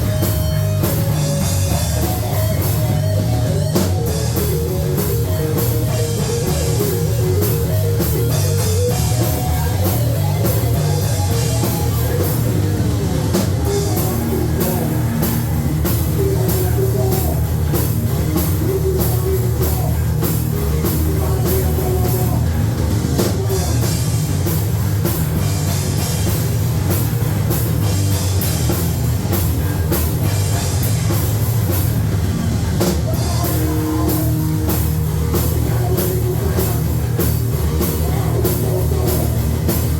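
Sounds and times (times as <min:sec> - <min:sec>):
bass guitar: 0:00.0 - 0:39.9
distorted electric guitars: 0:00.0 - 0:39.9
pounding drum kit: 0:00.0 - 0:39.9.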